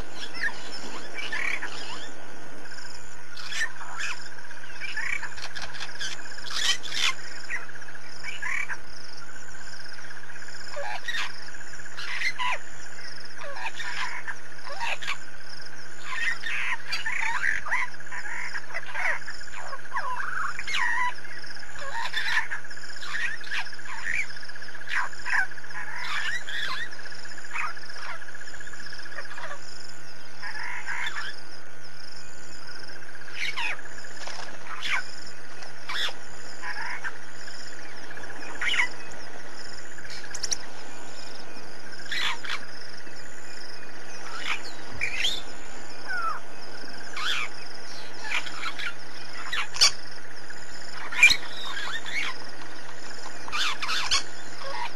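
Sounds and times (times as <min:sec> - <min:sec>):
birds chirping: 0:00.0 - 0:54.9
constant low hum: 0:00.0 - 0:54.9.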